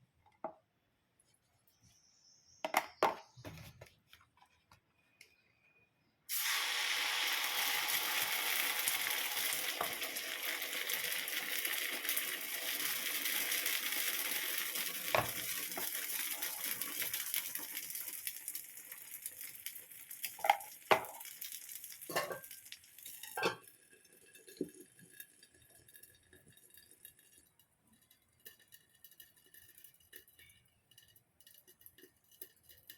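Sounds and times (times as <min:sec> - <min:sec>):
batter sizzling on hot surface: 0:06.3 - 0:32.9.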